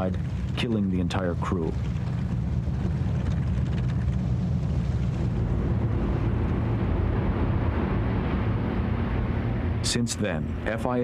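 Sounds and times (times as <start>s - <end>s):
piston aircraft engines droning: 0.0s - 11.0s.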